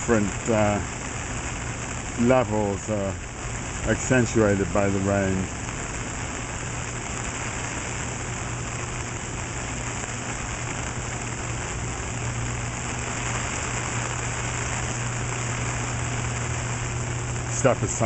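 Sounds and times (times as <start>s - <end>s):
low hum: 0.0s - 18.0s
rain on an umbrella: 0.0s - 18.0s.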